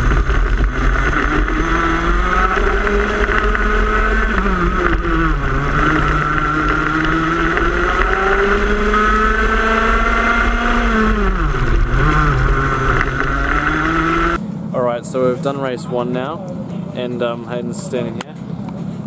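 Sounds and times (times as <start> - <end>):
racing kart engine revving: 0.0 - 15.5.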